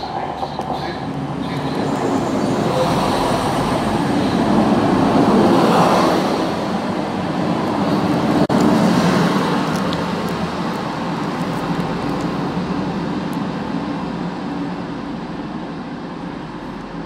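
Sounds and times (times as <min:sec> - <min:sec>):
diesel train passing: 0:00.0 - 0:17.0.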